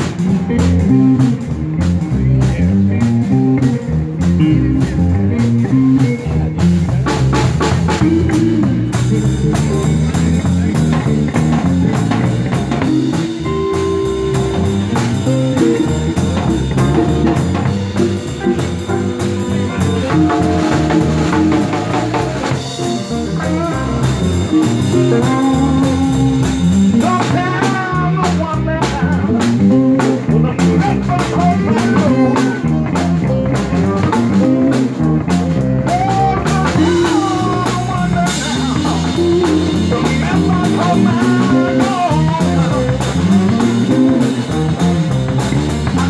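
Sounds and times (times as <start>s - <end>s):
blues band playing: 0.0s - 46.0s.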